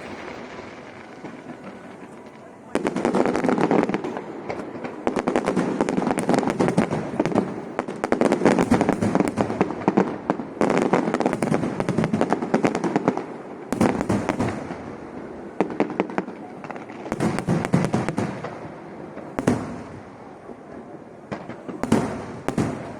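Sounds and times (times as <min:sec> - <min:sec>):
fireworks crackling bangs: 0:00.0 - 0:22.9.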